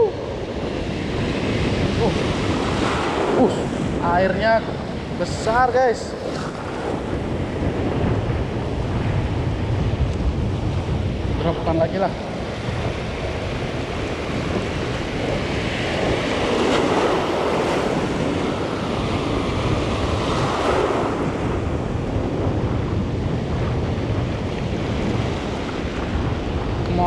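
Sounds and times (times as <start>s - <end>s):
sea surf washing ashore: 0.0s - 27.0s
wind buffeting microphone: 0.0s - 27.0s.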